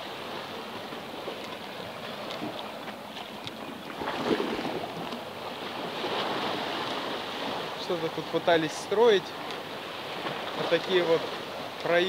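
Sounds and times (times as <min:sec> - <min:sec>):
waves splashing around boulders: 0:00.0 - 0:12.0.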